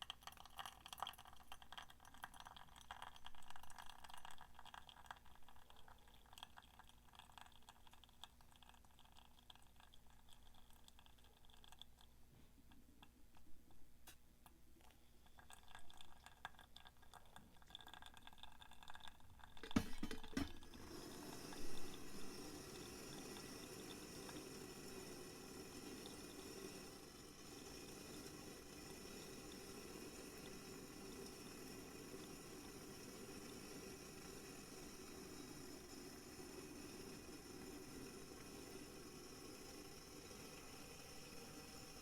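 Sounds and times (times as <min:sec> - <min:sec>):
hot water pouring: 0:00.0 - 0:12.1, 0:14.8 - 0:42.0.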